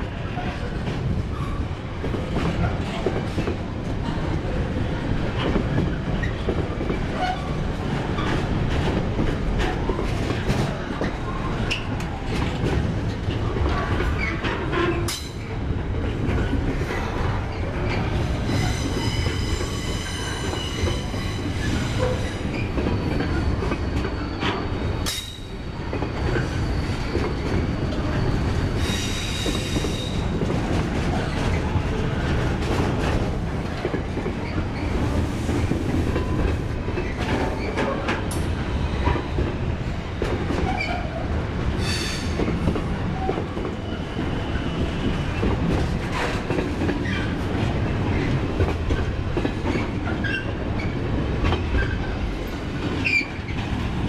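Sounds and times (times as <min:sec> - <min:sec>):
train wagons rumbling past: 0:00.0 - 0:54.0.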